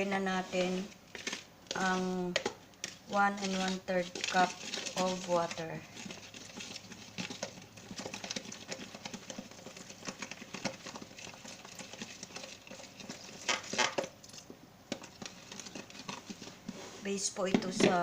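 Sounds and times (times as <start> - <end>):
utensil stirring batter in bowl: 0.0 - 18.0.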